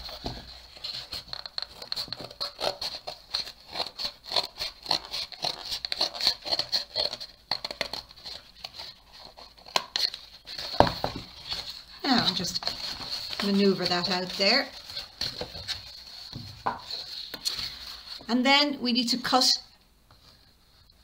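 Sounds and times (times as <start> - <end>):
scissors snipping cardboard: 0.0 - 17.7
cardboard box rustling: 0.0 - 18.3.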